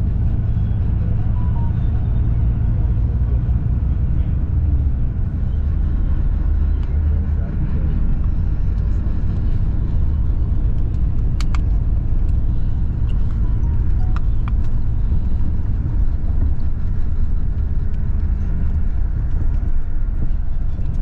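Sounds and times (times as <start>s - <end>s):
coach engine low rumble: 0.0s - 21.0s.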